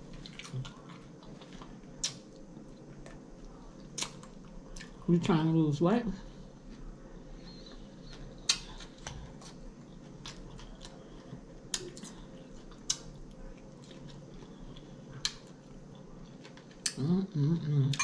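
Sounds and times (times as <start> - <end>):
quiet chewing: 0.0 - 5.1, 6.4 - 17.2.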